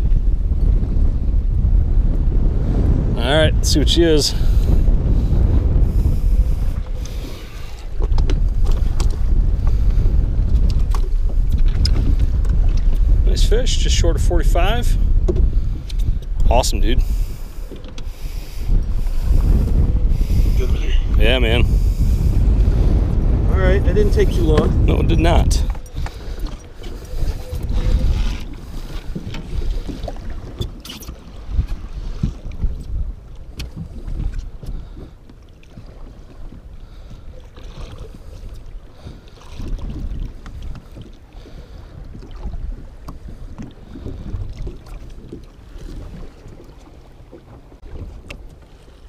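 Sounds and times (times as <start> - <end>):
waves lapping against boat: 0.0 - 49.0
wind buffeting microphone: 0.0 - 49.0.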